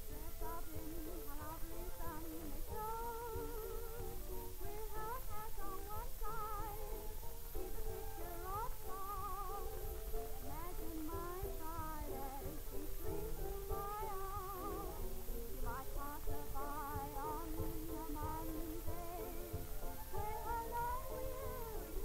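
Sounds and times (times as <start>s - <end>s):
musical accompaniment: 0.0s - 22.0s
woman singing with vibrato: 0.0s - 22.0s.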